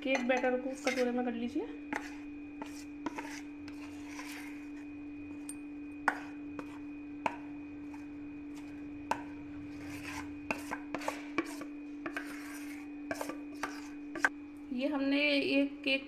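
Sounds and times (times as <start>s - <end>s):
steady low hum: 0.0s - 16.0s
spatula scraping batter: 0.1s - 5.4s, 6.0s - 14.3s.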